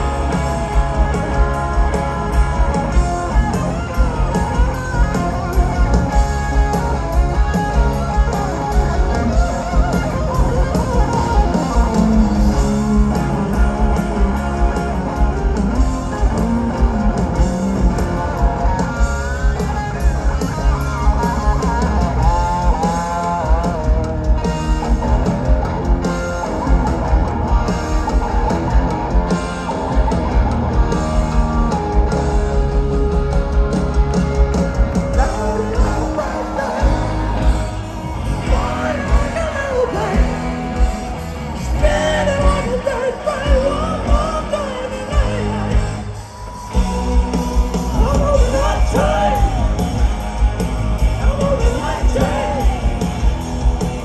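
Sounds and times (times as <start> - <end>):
lead electric guitar: 0.0 - 54.0
live hard rock band: 0.0 - 54.0.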